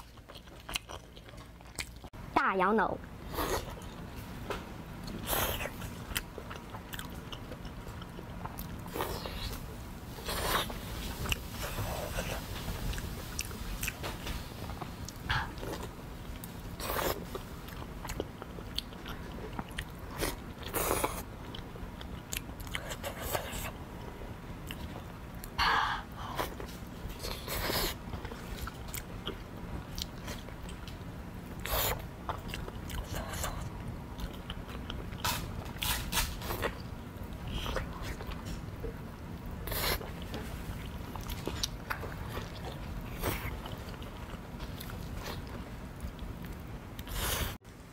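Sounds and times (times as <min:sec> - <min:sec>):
person chewing food: 0:00.0 - 0:02.1, 0:05.0 - 0:09.6, 0:10.2 - 0:23.8, 0:26.2 - 0:31.0, 0:31.6 - 0:47.6.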